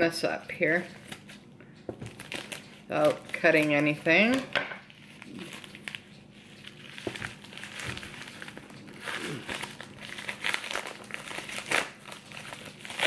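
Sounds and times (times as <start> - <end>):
bubble wrap crinkling: 2.0 - 13.0.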